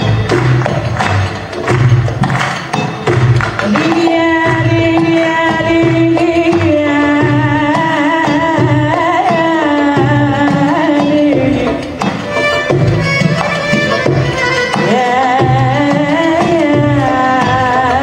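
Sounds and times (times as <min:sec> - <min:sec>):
belly dance music: 0:00.0 - 0:18.0
steady repeating drum beat: 0:00.0 - 0:18.0.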